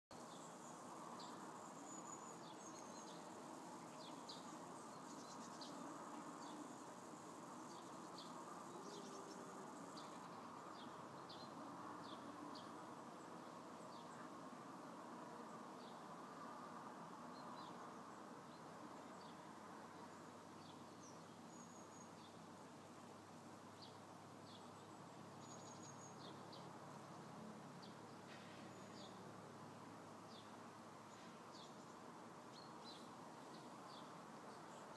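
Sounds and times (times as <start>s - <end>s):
small birds chirping: 0.1s - 14.4s, 17.3s - 22.5s, 23.6s - 29.3s, 30.1s - 34.9s
faint low background noise: 0.1s - 34.9s.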